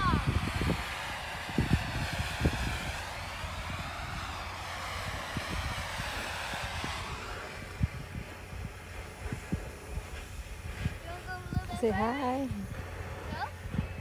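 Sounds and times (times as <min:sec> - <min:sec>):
distant aircraft drone: 0:00.0 - 0:14.0.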